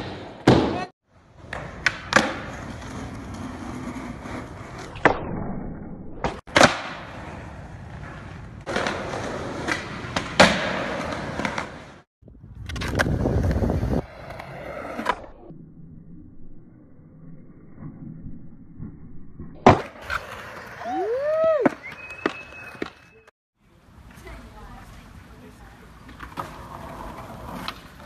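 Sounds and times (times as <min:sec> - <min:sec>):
skateboard wheels rolling on concrete: 0:00.0 - 0:05.5, 0:06.2 - 0:15.6, 0:17.1 - 0:28.0.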